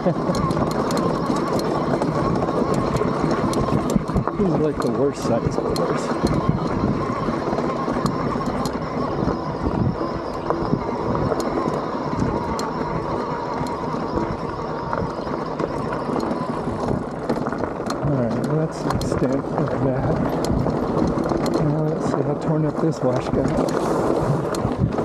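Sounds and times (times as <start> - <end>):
bike frame and suspension rattling: 0.0 - 25.0
steady noisy rumble: 0.0 - 25.0.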